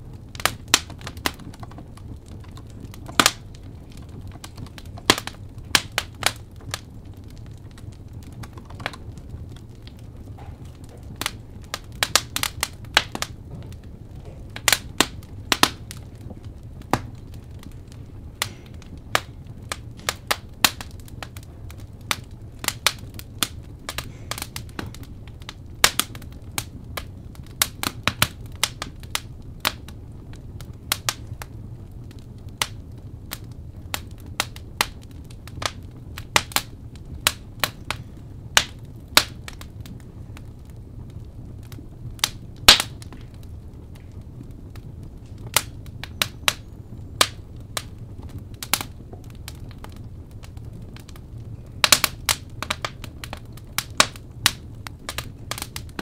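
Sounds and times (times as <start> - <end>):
low steady rumble: 0.0 - 56.0
wood fire crackling: 0.0 - 56.0.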